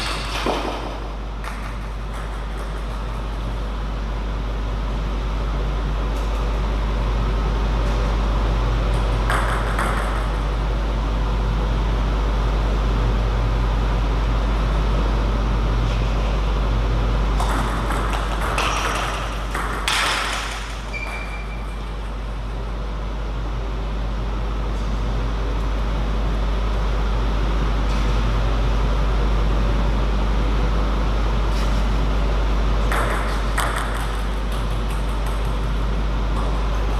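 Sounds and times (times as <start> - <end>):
low hum and hiss: 0.0 - 36.9.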